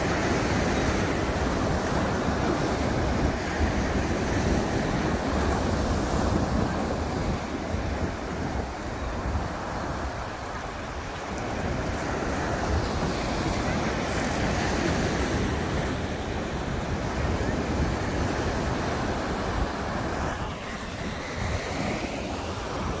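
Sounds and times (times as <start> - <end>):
surf washing over pebbles: 0.0 - 23.0
wind buffeting microphone: 0.0 - 23.0.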